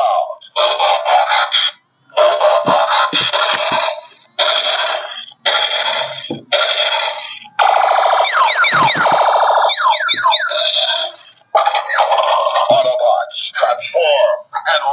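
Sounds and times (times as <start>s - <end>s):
buzzing toy alarm siren: 0.0s - 14.9s
electronic toy sound bursts: 0.0s - 14.9s.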